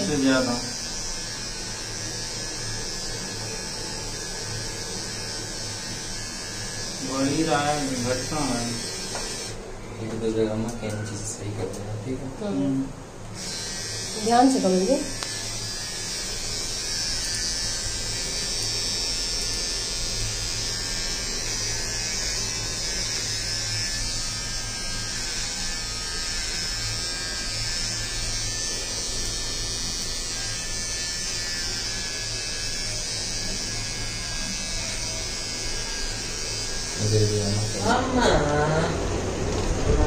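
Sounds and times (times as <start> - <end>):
electric hair trimmer buzzing: 0.0 - 40.0.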